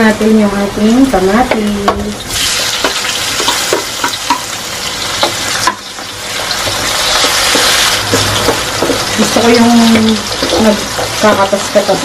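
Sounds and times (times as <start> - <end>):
vegetables sizzling in hot oil: 0.7 - 12.0.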